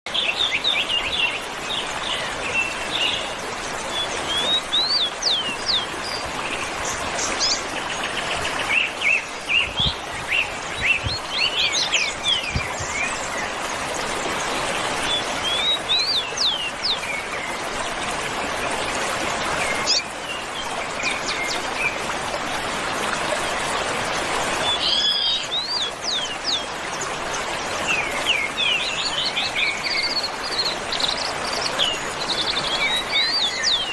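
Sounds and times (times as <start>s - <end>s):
birds chirping and trilling: 0.1s - 17.6s, 19.6s - 22.0s, 24.6s - 27.0s, 27.9s - 33.9s.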